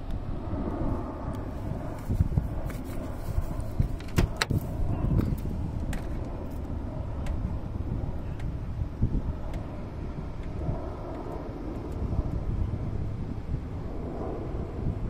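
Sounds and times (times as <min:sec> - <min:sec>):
vehicle rumbling in motion: 0:00.0 - 0:15.0.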